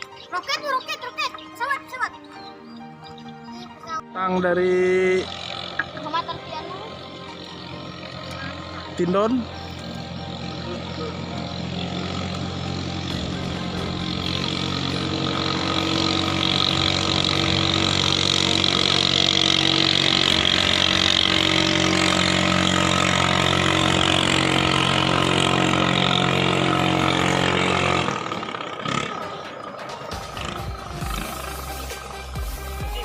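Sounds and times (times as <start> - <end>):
boat engine running at high speed: 4.6 - 33.0.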